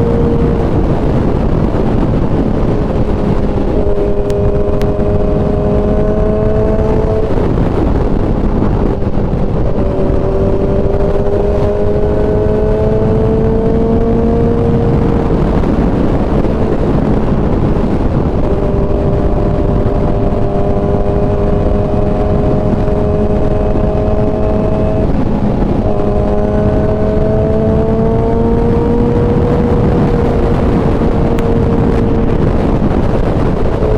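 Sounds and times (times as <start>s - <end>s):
motorcycle engine accelerating: 0.0s - 33.9s
wind rush over microphone: 0.0s - 33.9s.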